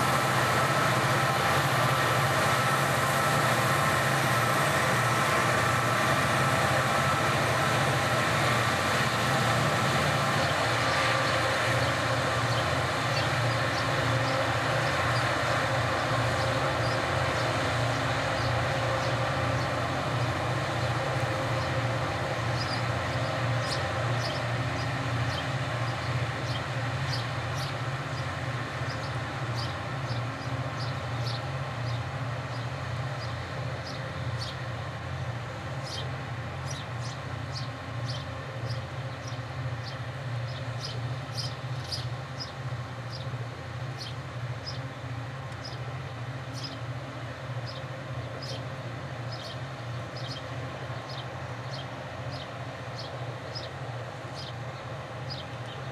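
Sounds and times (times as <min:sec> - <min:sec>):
locomotive low drone: 0:00.0 - 0:55.9.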